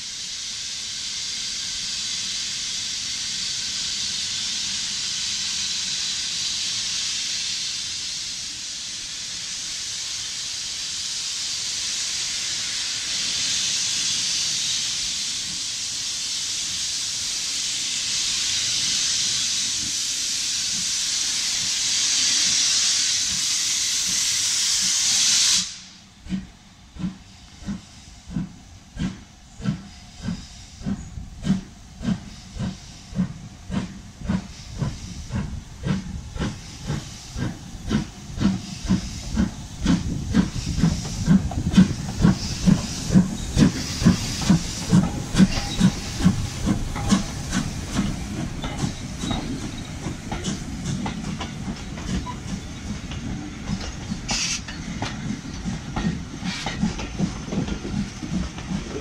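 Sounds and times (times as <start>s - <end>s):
hiss of escaping steam: 0.0s - 59.0s
steam locomotive exhaust beats: 0.0s - 59.0s.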